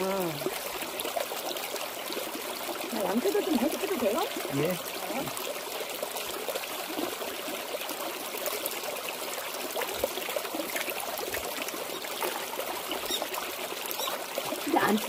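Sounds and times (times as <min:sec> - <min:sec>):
stream trickling over rocks: 0:00.0 - 0:15.0.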